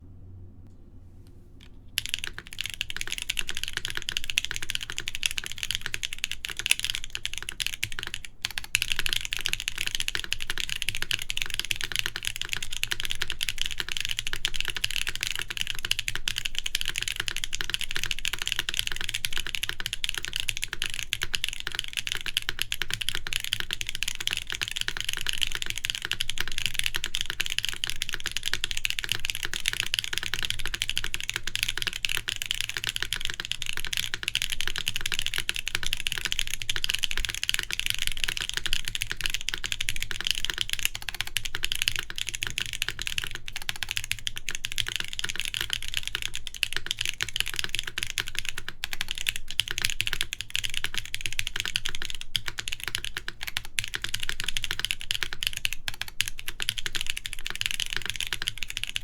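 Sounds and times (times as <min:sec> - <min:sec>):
fast typing on mechanical keyboard: 0:02.0 - 0:59.0.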